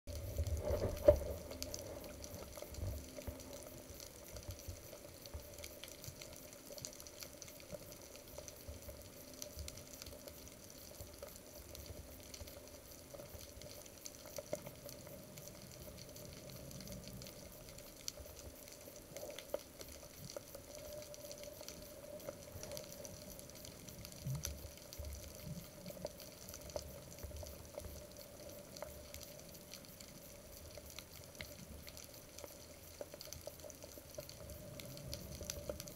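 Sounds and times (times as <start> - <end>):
low rumbles of water: 0.1 - 35.9
small clicks and crackles: 0.1 - 35.9
underwater hiss: 0.2 - 35.9.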